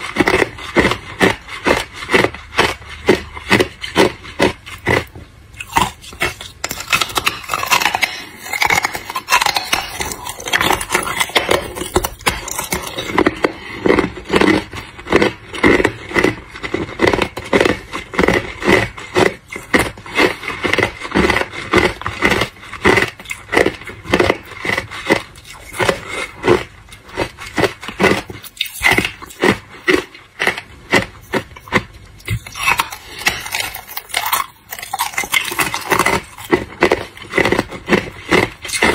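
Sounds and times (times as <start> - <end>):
ice crunching when chewed: 0.0 - 38.9.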